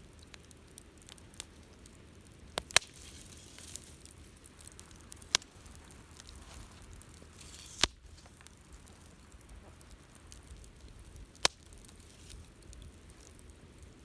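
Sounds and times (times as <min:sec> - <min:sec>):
campfire crackling: 0:00.0 - 0:14.0
sharp pops of burning wood: 0:00.0 - 0:14.0
soft fire hiss: 0:00.0 - 0:14.0.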